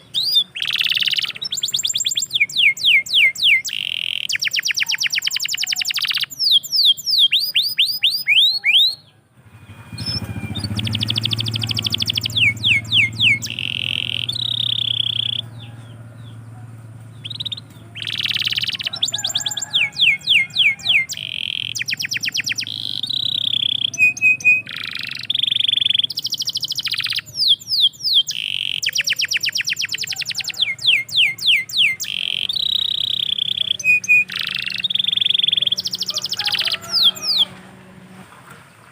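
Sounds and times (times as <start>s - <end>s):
canary singing trills: 0.0s - 37.6s.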